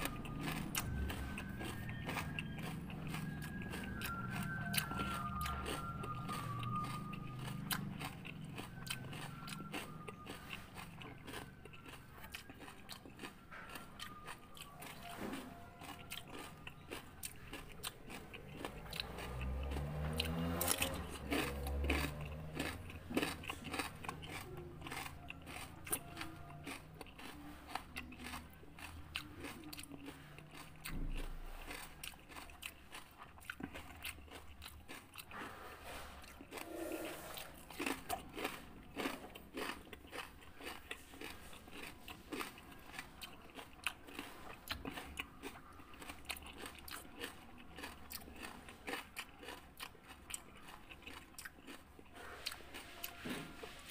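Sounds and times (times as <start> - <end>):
cucumber crunching while chewed: 0.0 - 53.9.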